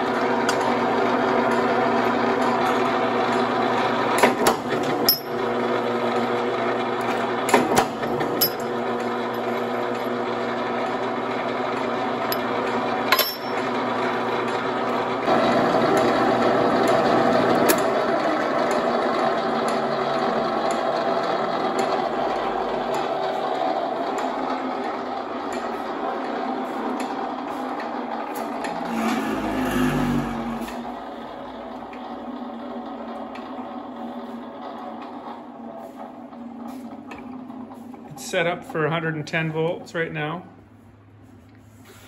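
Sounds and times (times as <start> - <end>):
motor and flywheel hum: 0.0 - 41.6.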